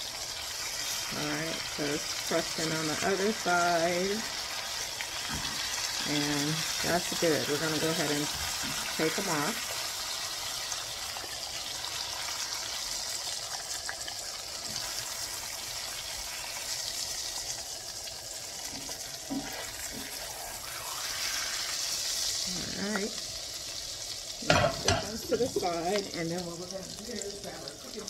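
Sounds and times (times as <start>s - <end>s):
meat sizzling in a skillet: 0.0s - 28.0s.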